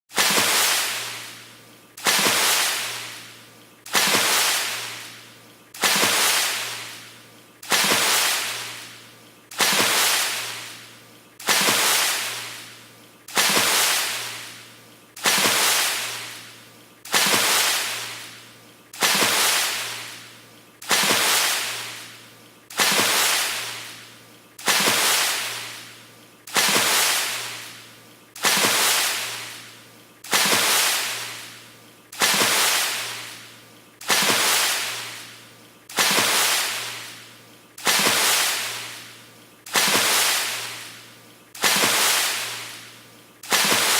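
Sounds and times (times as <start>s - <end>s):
water splash: 0.1s - 31.6s, 32.2s - 43.9s.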